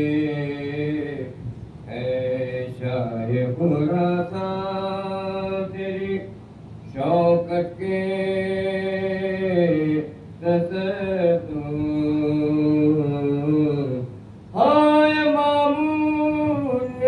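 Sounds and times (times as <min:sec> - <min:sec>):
man chanting unaccompanied: 0:00.0 - 0:17.0.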